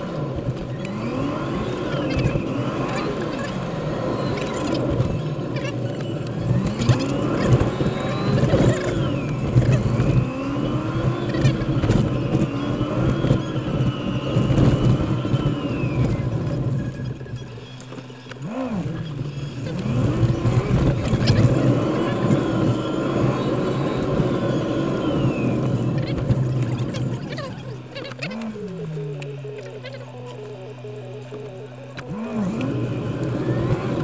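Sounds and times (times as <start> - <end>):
car engine revving: 0.0 - 34.0
road noise inside car: 0.0 - 34.0.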